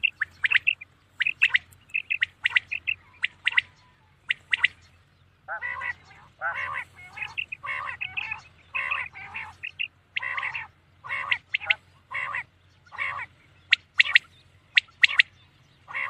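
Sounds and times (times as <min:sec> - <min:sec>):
quail harsh nasal calls: 0:00.0 - 0:04.8, 0:05.5 - 0:16.0
quail whistled song: 0:00.0 - 0:16.0.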